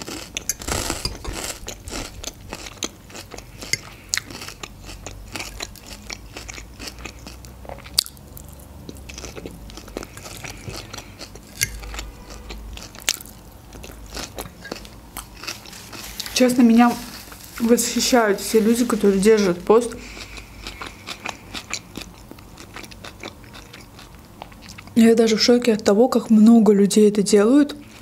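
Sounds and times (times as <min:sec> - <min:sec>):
crunching and chewing salad: 0:00.0 - 0:25.0.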